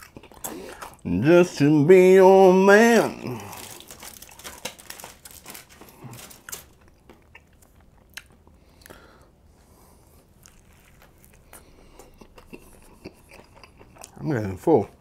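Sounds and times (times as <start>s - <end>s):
person chewing food: 0.0s - 1.1s, 3.1s - 14.2s.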